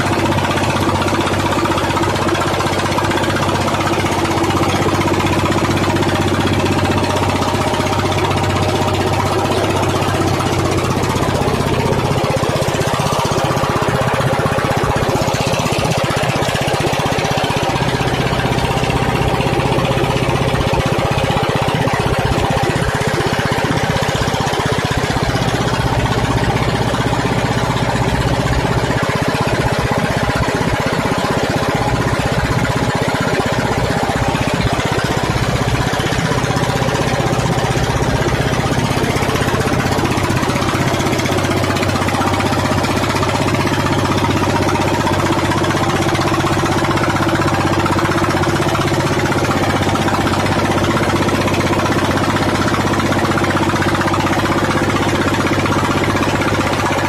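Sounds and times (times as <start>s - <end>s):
boat engine knocking: 0.0s - 57.0s.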